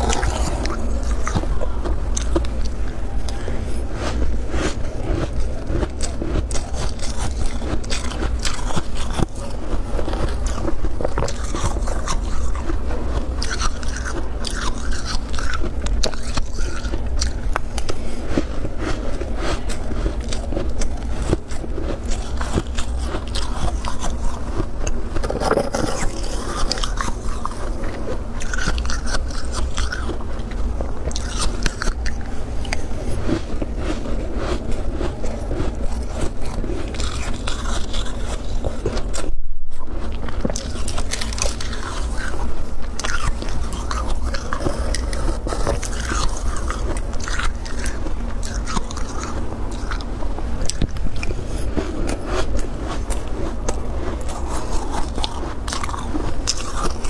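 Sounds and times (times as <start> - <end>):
chewing crunchy frost: 0.0 - 57.0
low hum: 0.0 - 57.0.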